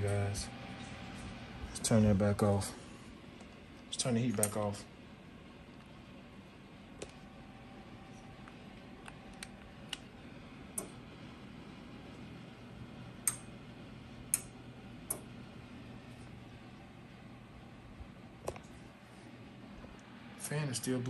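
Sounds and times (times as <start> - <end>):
heater fan humming: 0.0 - 21.0.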